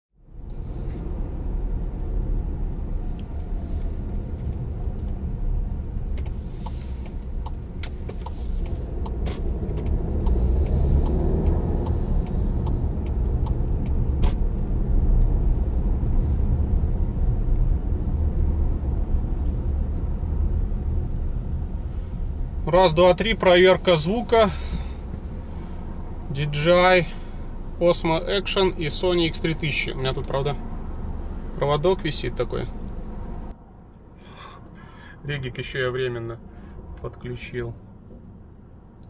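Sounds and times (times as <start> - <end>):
car engine and tyre rumble: 0.1 - 39.0.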